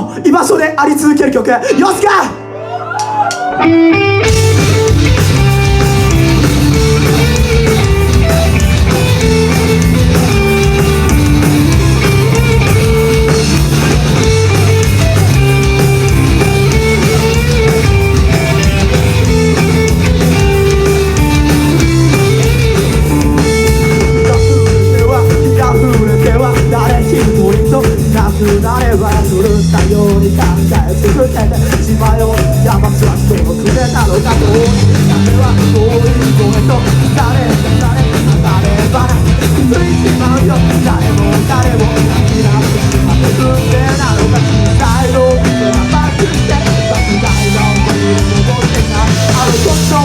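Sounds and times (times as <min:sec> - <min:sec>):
bass: 0:00.0 - 0:50.0
electric guitars: 0:01.6 - 0:50.0
drum kit: 0:04.2 - 0:50.0.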